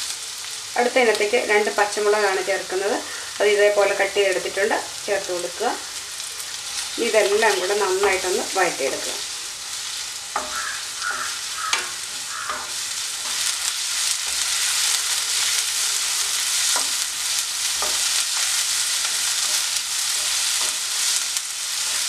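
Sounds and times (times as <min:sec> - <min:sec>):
onions sizzling in a pan: 0:00.0 - 0:22.0.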